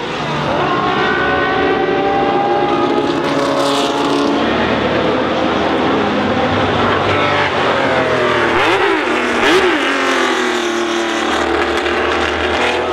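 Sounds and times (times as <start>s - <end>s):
car engine revving: 0.0s - 12.9s
car engines running: 0.0s - 12.9s.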